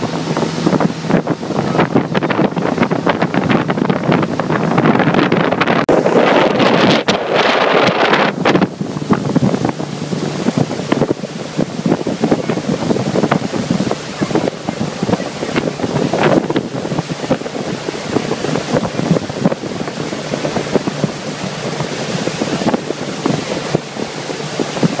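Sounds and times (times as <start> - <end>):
rushing water: 0.0 - 25.0
speedboat engine rumble: 0.0 - 25.0
wind buffeting microphone: 0.0 - 25.0.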